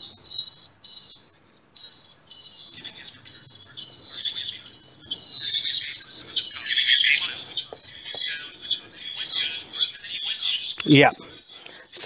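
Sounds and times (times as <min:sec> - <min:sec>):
high electronic whistling: 0:00.0 - 0:01.1, 0:03.4 - 0:12.0.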